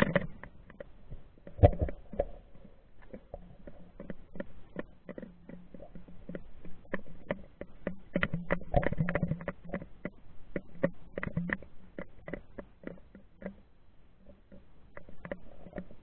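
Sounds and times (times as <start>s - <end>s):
underwater clicks and knocks: 0.0s - 16.0s.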